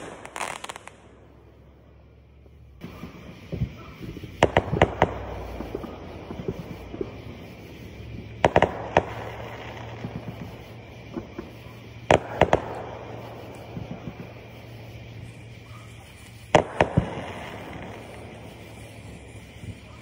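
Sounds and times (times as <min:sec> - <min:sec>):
small firework pops: 0:00.0 - 0:01.1, 0:02.4 - 0:20.0
firework bangs: 0:00.0 - 0:01.6, 0:02.5 - 0:20.0.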